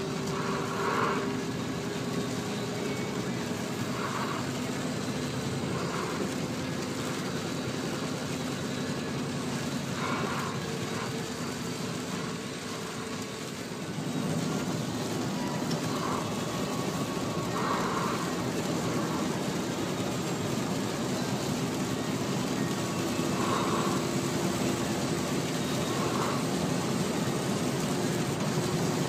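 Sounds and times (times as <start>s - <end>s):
car engine and road noise: 0.0s - 29.0s
rain: 0.0s - 29.0s.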